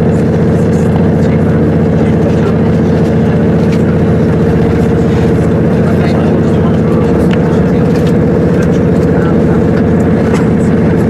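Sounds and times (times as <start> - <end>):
train engine drone: 0.0 - 11.0.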